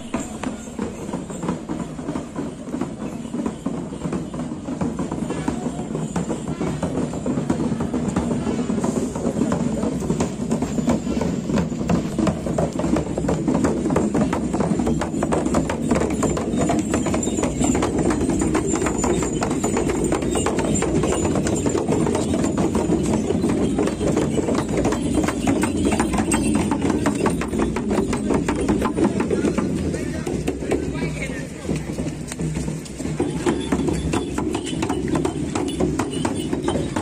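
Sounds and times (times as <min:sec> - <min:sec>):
brass bells jingling: 0:00.0 - 0:37.0
frame drums beaten: 0:00.0 - 0:37.0.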